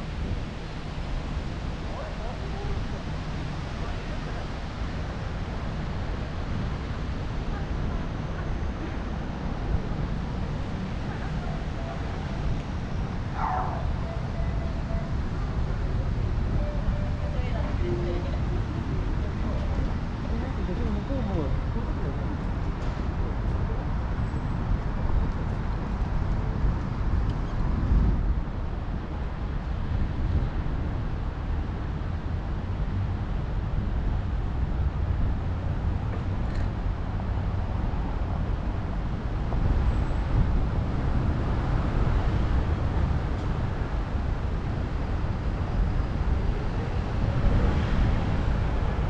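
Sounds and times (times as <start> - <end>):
city traffic noise: 0.0 - 49.0
wind rumble on microphone: 0.0 - 49.0.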